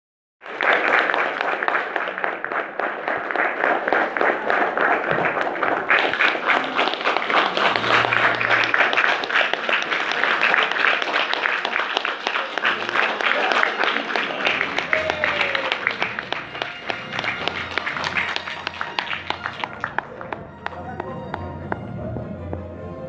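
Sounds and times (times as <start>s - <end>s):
audience applauding: 0.4s - 22.8s.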